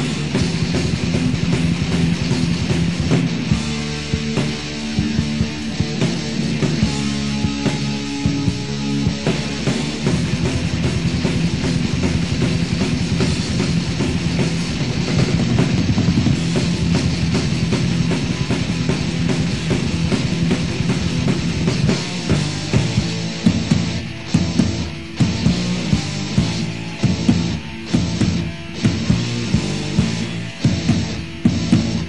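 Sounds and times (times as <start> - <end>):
distorted electric guitars: 0.0 - 32.0
fast drumming: 0.0 - 32.0.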